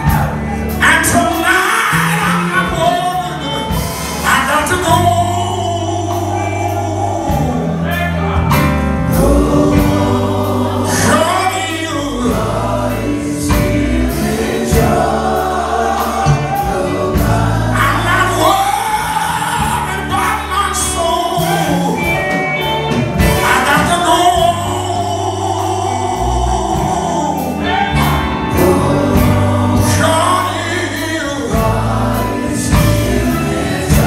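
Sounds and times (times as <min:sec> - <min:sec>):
drum kit beat: 0:00.0 - 0:34.0
electric bass: 0:00.0 - 0:34.0
keyboard: 0:00.0 - 0:34.0
man singing into microphone: 0:00.8 - 0:08.4, 0:09.1 - 0:13.8, 0:15.9 - 0:22.5, 0:23.3 - 0:34.0.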